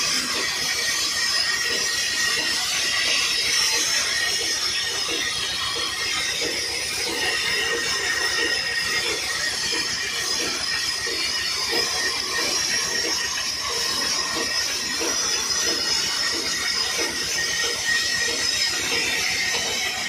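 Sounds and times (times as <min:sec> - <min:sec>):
sawmill machinery hiss and whine: 0:00.0 - 0:20.0.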